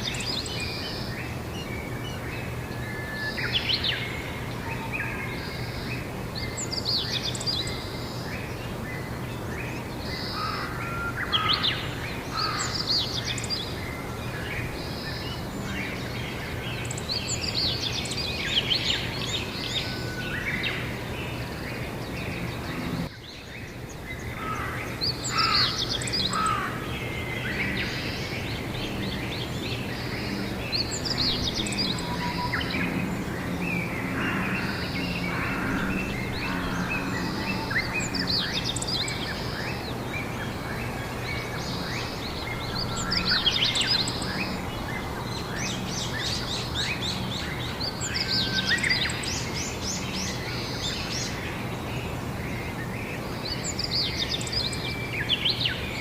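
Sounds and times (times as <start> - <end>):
wild birds singing and calling: 0.0 - 56.0.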